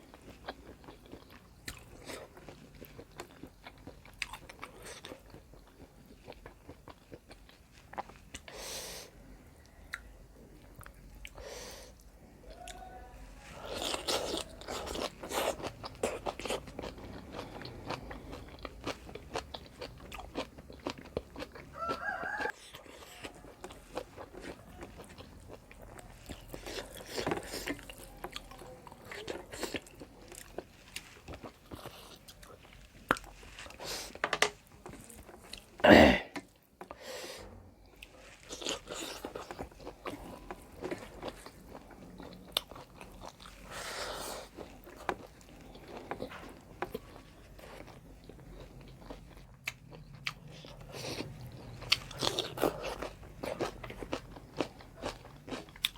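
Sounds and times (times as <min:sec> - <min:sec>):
person chewing and crunching food: 0:00.0 - 0:55.9.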